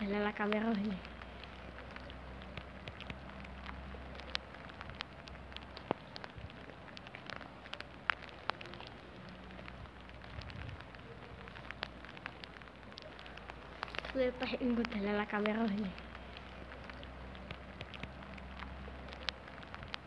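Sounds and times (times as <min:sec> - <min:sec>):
rain hissing: 0:00.0 - 0:20.0
raindrops ticking on a surface: 0:00.0 - 0:20.0.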